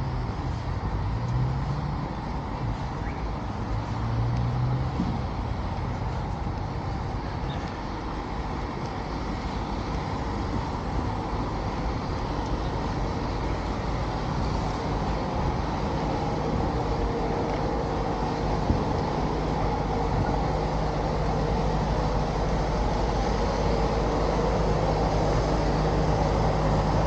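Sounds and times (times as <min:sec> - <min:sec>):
low engine hum: 0:00.0 - 0:27.0
road traffic passing: 0:00.0 - 0:27.0.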